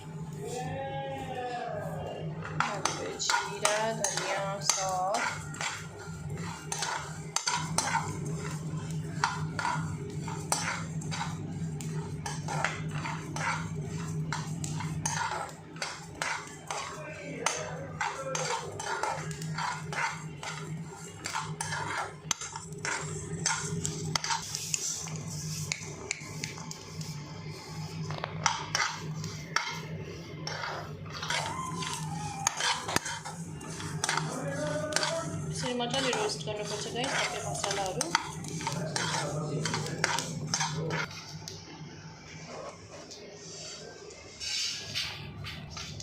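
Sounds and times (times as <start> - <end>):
metal spatula scraping a pan: 2.4 - 41.2.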